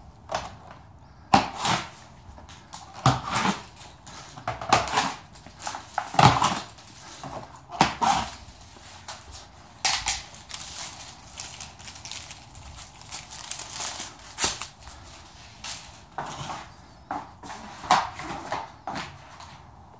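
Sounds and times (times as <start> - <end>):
cardboard packaging handled: 1.3 - 19.7.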